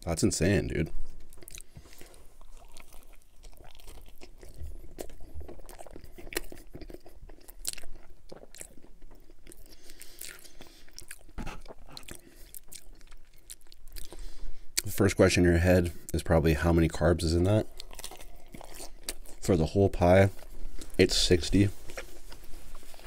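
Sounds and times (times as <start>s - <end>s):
crunchy chewing of pizza crust: 1.0s - 14.9s, 15.9s - 23.0s.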